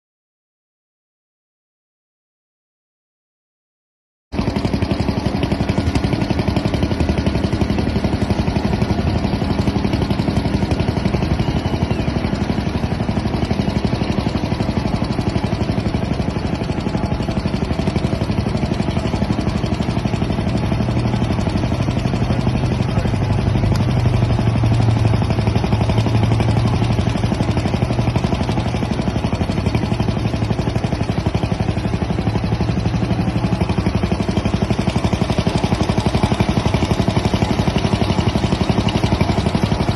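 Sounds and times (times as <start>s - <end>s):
engine running: 4.4s - 39.9s.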